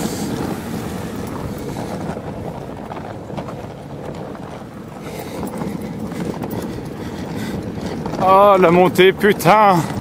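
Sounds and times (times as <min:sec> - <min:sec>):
low wind rumble: 0:00.0 - 0:10.0.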